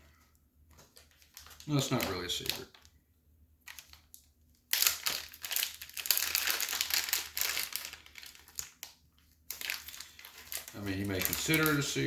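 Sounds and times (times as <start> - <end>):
packaging crinkling: 0.0 - 3.0, 3.6 - 12.0.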